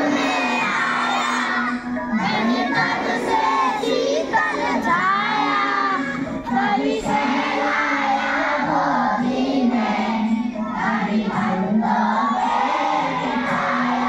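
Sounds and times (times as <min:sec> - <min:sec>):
children singing in chorus: 0:00.0 - 0:14.0.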